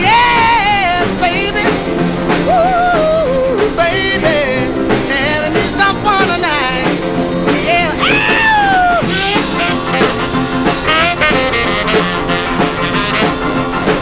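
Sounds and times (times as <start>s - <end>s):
rock and roll music: 0.0s - 14.0s.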